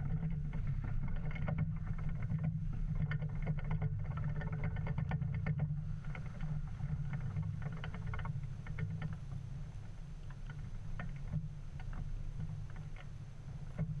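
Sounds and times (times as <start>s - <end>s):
flag flapping in the wind: 0.0s - 14.0s
wind rumble on microphone: 0.0s - 14.0s.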